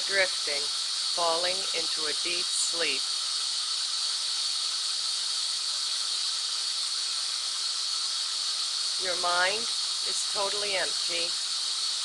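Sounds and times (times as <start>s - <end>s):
white noise hiss: 0.0s - 12.0s.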